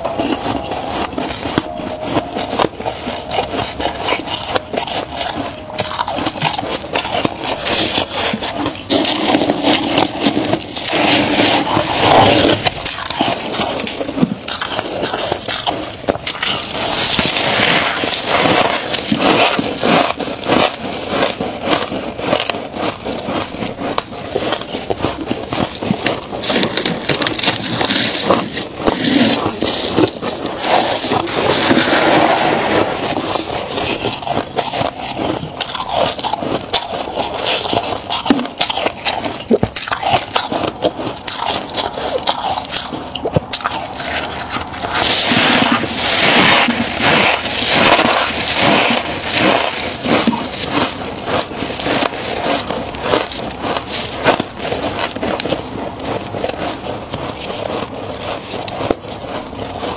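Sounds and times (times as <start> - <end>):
crisp crackling and scraping of frost: 0.0 - 59.9.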